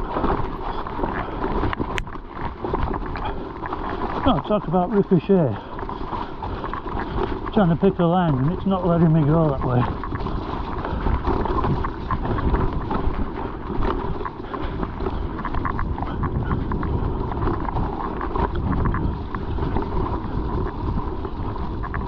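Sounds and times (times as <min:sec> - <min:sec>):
mountain bike rattling over rocks: 0:00.0 - 0:22.0
wind buffeting microphone: 0:00.0 - 0:22.0.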